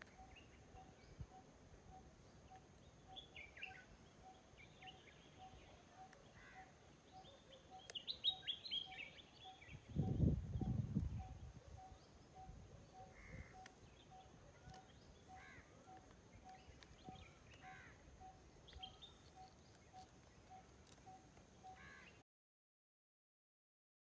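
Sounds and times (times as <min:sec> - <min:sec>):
birds chirping: 0:00.0 - 0:22.2.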